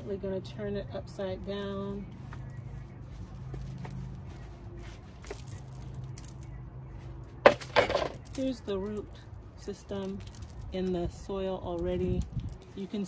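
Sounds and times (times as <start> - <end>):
scrapes and rustles of soil and plastic: 0.0 - 13.0.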